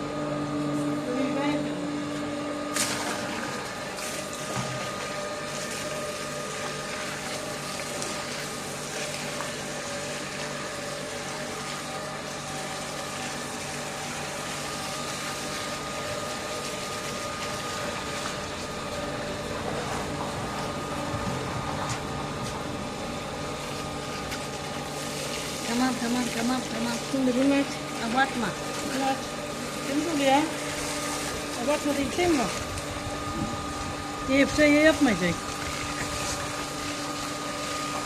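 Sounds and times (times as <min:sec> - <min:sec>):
motor humming: 0:00.0 - 0:38.0.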